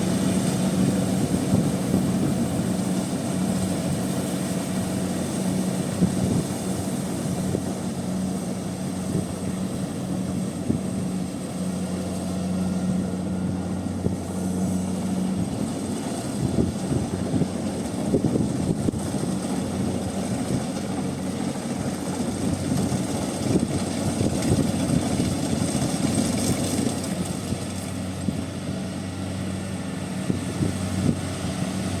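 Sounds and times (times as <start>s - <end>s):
combine harvester engine drone: 0.0s - 32.0s
machinery churning rattle: 0.0s - 32.0s.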